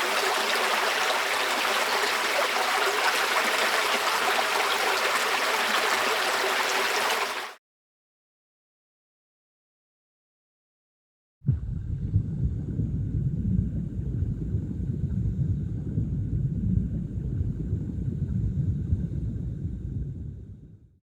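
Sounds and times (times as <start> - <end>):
rushing water rumble: 0.0 - 7.6, 11.5 - 20.8.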